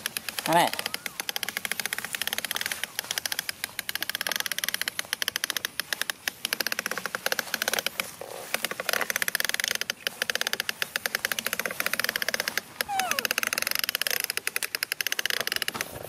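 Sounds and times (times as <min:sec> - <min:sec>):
plastic toy truck rattling: 0:00.0 - 0:16.0.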